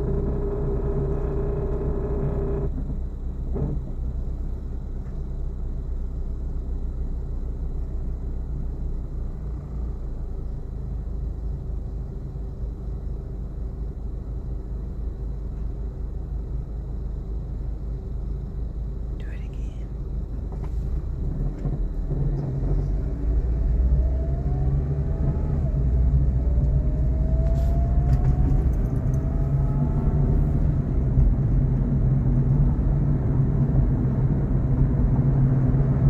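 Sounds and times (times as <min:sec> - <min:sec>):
car cabin low rumble: 0:00.0 - 0:36.0.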